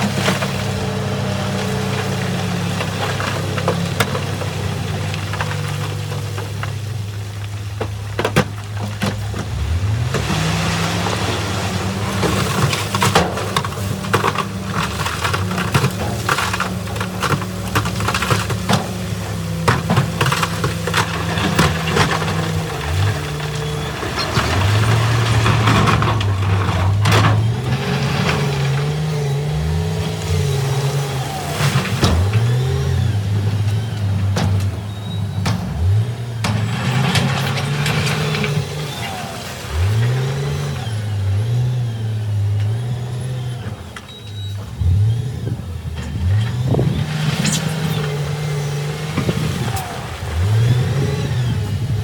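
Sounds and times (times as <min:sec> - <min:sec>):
diesel engine under load: 0:00.0 - 0:52.0.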